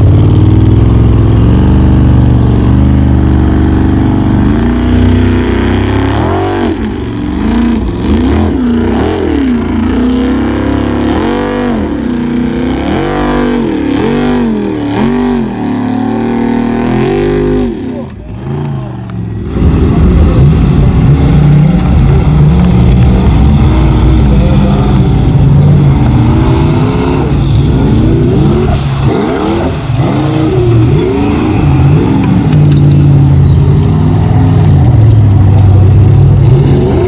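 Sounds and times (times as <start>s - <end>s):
buggy engine revving: 0.0s - 37.0s.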